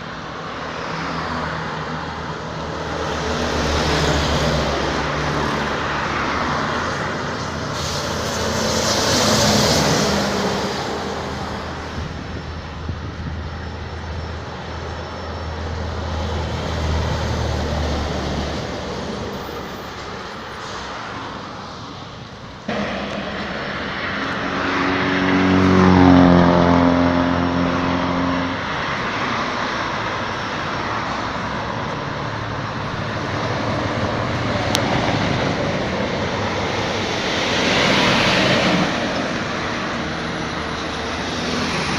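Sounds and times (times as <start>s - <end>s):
heavy vehicles passing: 0.0s - 41.9s.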